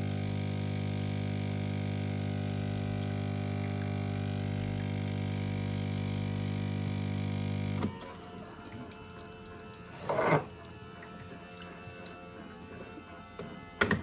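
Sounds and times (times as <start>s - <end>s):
coffee machine pump humming: 0.0s - 14.0s.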